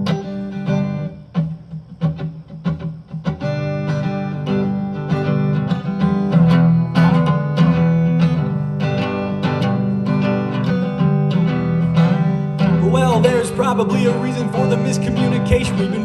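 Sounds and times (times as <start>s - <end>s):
acoustic guitar plucked notes: 0.0s - 16.0s
acoustic guitar strummed chords: 0.0s - 16.0s.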